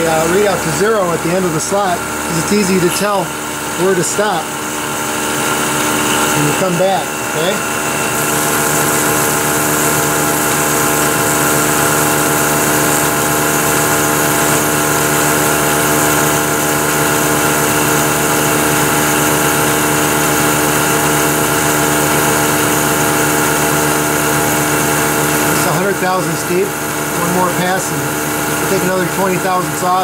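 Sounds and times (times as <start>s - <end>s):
milling machine whine: 0.0s - 30.0s.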